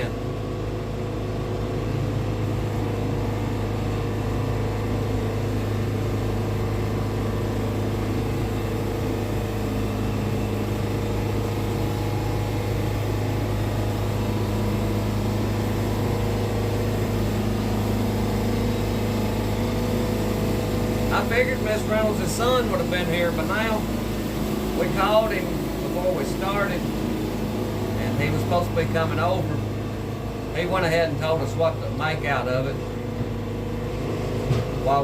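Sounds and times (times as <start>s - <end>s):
band sawmill engine humming: 0.0s - 35.0s.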